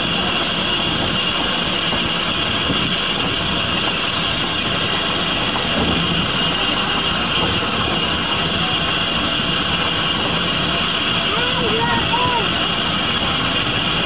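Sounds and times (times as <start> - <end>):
steam locomotive running: 0.0 - 14.0.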